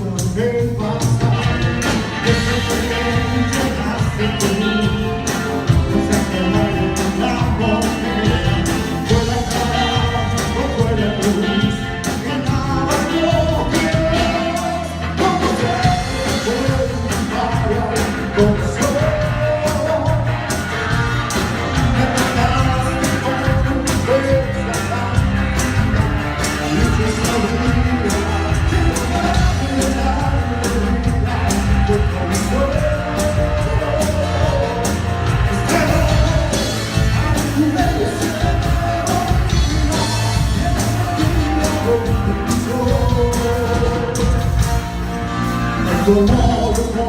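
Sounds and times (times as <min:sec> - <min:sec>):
bass and percussion beat: 0:00.0 - 0:47.0
live band playing cumbia: 0:00.0 - 0:47.0.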